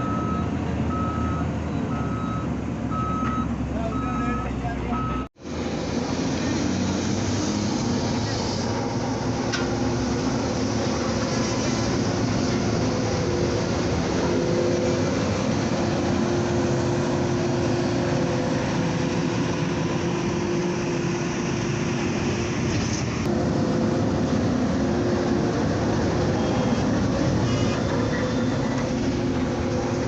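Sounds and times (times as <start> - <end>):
moving vehicle running noise: 0.0 - 30.0.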